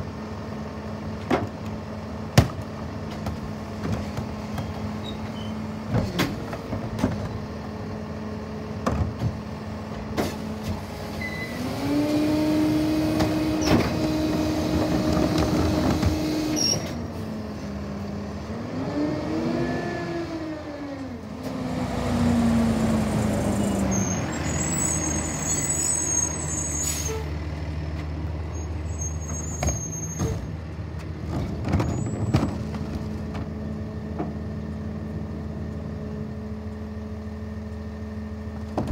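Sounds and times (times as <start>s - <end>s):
garbage truck engine idling and revving: 0.0s - 38.9s.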